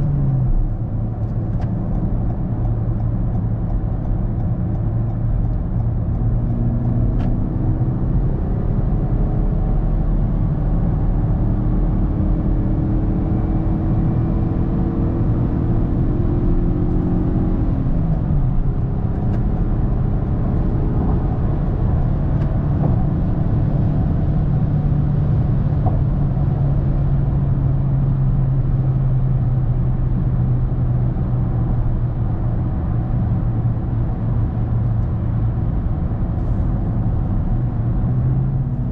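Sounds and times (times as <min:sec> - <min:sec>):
car engine from inside cabin: 0:00.0 - 0:38.9.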